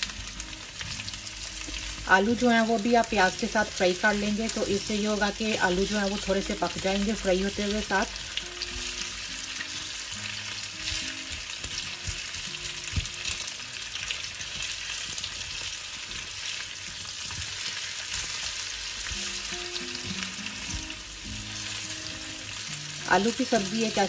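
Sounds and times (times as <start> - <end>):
potatoes sizzling in hot oil: 0.0 - 24.0.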